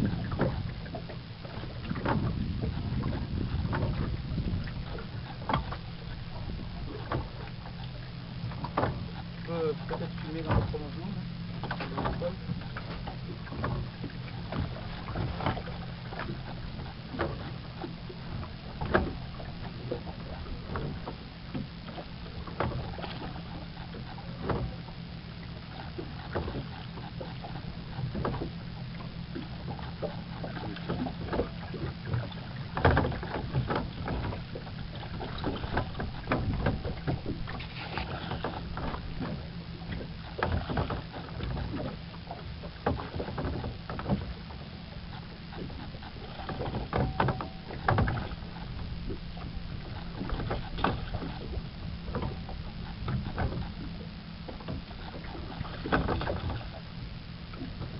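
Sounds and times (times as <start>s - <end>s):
oar knocks and clicks: 0.0s - 24.8s, 25.8s - 56.9s
steady low hum: 0.0s - 57.9s
water lapping: 0.0s - 57.9s.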